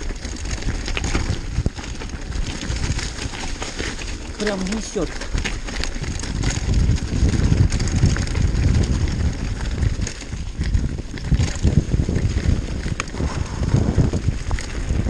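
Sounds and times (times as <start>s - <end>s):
bike tyres rumbling over stones: 0.0s - 15.0s
wind buffeting microphone: 0.0s - 15.0s.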